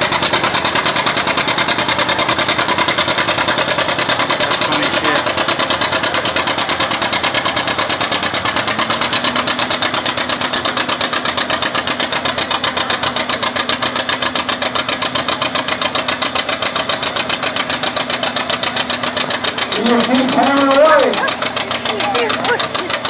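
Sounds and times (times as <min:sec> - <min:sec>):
tractor engine under load: 0:00.0 - 0:23.0.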